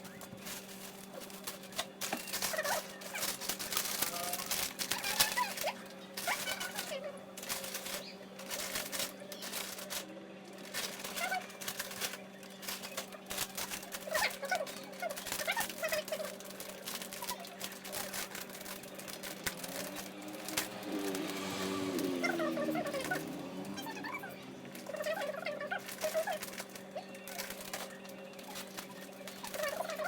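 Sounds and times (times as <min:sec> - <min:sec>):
distant voices or calls: 0:00.0 - 0:30.0.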